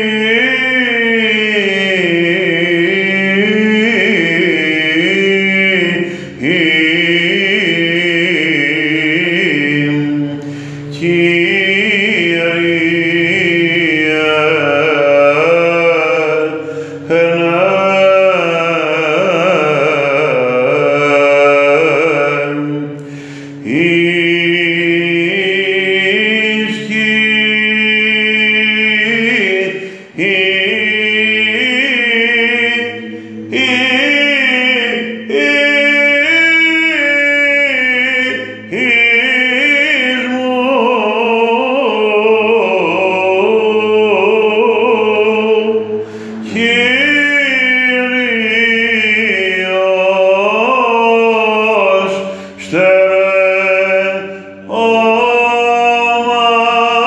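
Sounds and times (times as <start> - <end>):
low held vocal drone: 0.0 - 57.0
man chanting a hymn: 0.0 - 57.0.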